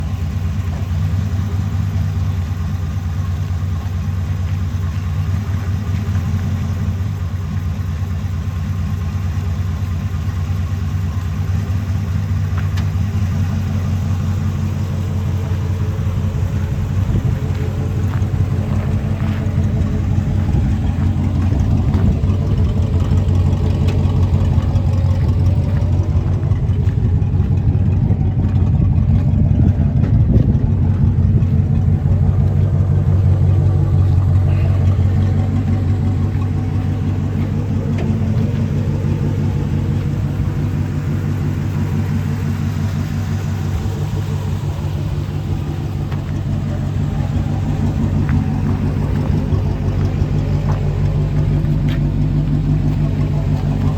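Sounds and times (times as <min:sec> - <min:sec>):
pickup truck engine idling: 0:00.0 - 0:53.9.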